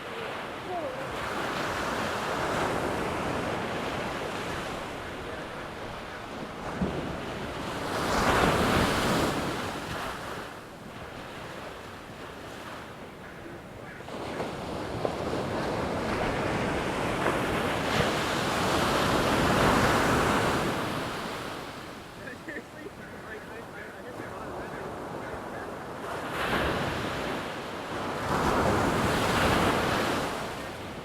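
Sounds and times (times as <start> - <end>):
waves breaking: 0.0 - 31.0.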